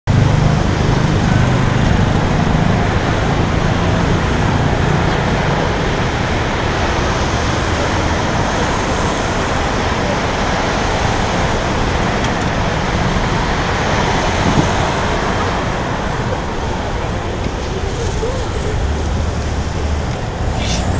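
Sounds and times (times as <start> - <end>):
heavy low engine rumble: 0.1 - 20.9
passing vehicles: 0.1 - 20.9.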